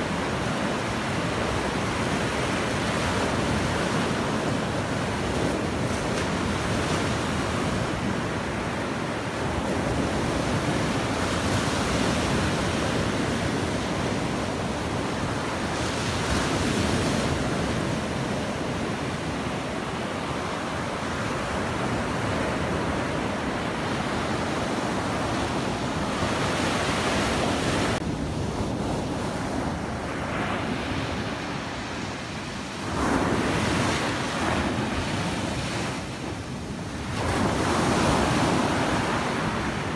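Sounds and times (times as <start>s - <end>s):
sea surf breaking on beach: 0.0s - 39.9s.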